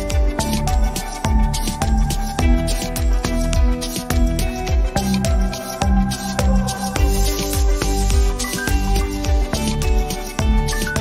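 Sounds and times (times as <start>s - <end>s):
music with steady drum beat: 0.0s - 11.0s.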